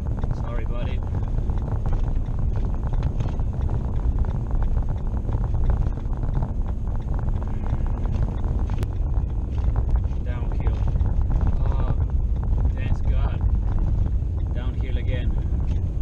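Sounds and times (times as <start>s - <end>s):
engine and tyre rumble in cabin: 0.0s - 16.0s.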